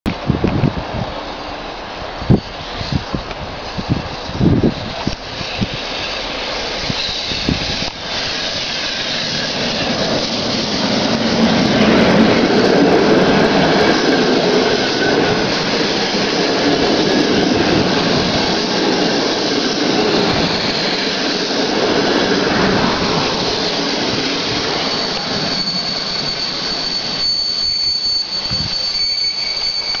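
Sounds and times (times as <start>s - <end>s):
train wheels rumbling on rail: 0.0s - 30.0s
high-pitched brake squeal: 1.0s - 30.0s.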